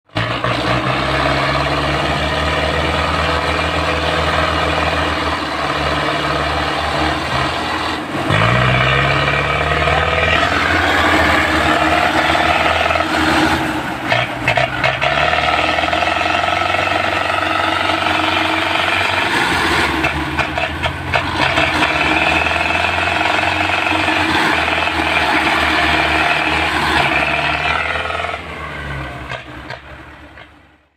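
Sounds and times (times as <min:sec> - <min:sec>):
tractor diesel engine running hard: 0:00.0 - 0:30.9.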